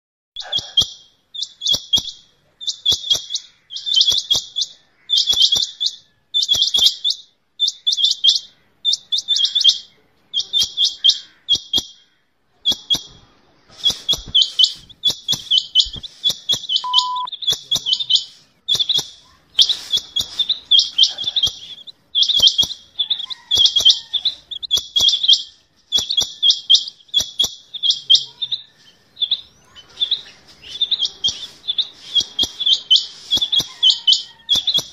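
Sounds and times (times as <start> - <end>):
quail calling: 0.4 - 13.1, 13.7 - 34.9.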